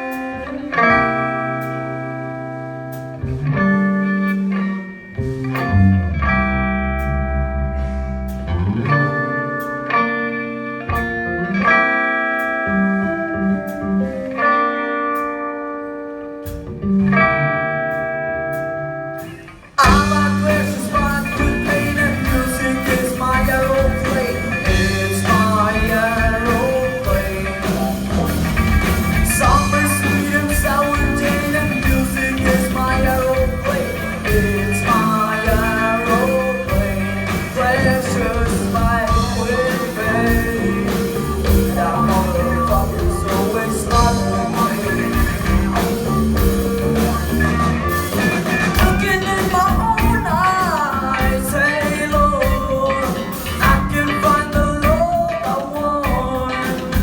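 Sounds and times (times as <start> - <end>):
electric guitar ringing chords: 0.0 - 55.2
rock band playing: 0.0 - 57.0.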